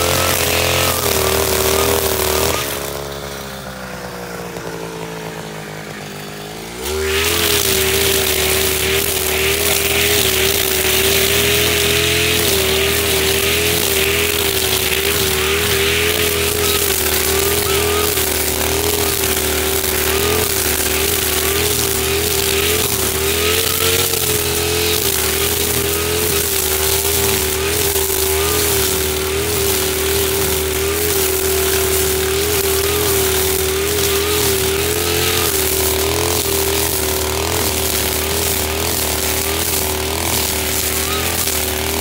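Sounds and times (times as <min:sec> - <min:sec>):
brush cutter engine running: 0:00.0 - 0:42.0.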